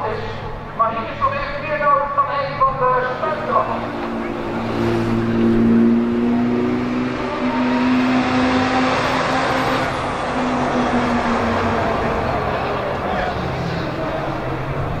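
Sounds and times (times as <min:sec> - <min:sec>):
fire engine diesel engine humming: 0:00.0 - 0:15.0.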